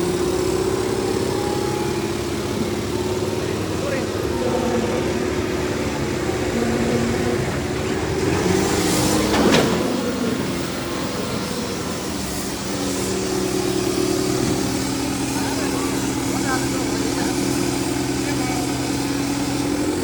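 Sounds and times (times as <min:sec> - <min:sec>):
diesel tractor engines under load: 0:00.0 - 0:20.0.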